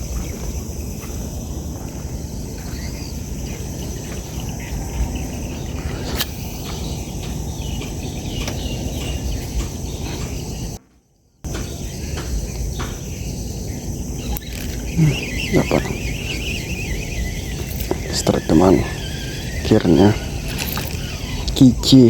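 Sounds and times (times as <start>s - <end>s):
low outdoor rumble: 0.0s - 10.8s, 11.5s - 22.0s
insect chirring: 0.0s - 22.0s
faint clicks: 0.1s - 10.8s, 14.2s - 21.7s.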